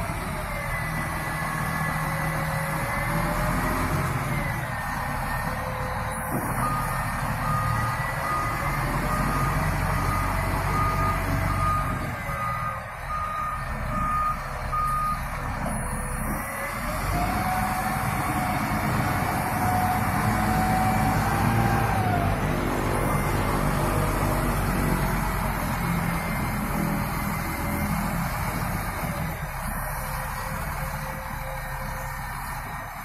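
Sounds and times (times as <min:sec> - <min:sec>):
diesel engine running: 0:00.0 - 0:33.0
reversing alarm beeping: 0:00.2 - 0:32.2.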